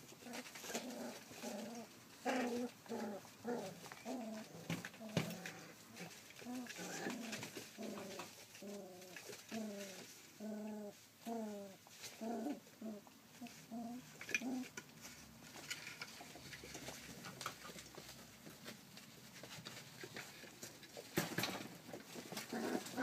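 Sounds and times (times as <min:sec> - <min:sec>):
puppies scuffling: 0:00.0 - 0:23.0.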